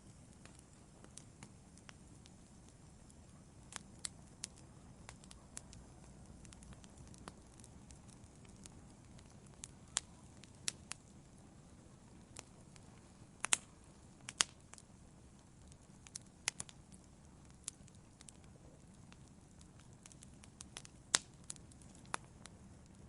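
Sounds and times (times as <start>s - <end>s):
fire crackles and pops: 0.0s - 23.0s
wood fire rumbling: 0.0s - 23.0s.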